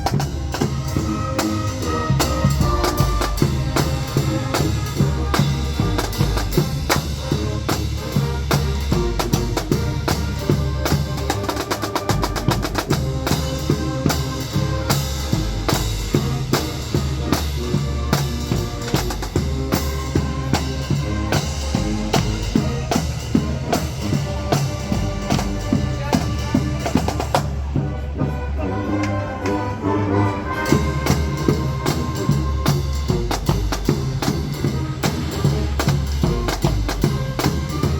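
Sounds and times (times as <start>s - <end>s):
fast drum roll: 0.0s - 27.8s, 30.6s - 37.9s
snare drums: 0.0s - 27.8s, 30.6s - 37.9s
bass drums: 0.0s - 28.0s, 30.6s - 37.9s.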